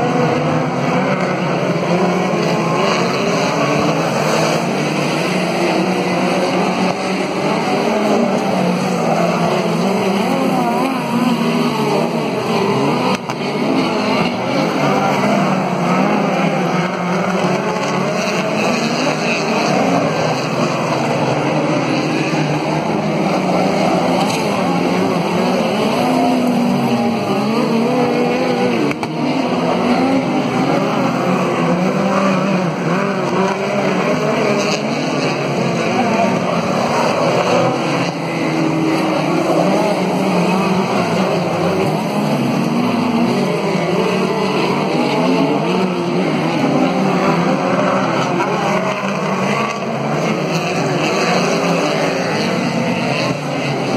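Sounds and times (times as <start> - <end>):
race car engines roaring: 0.0 - 53.9.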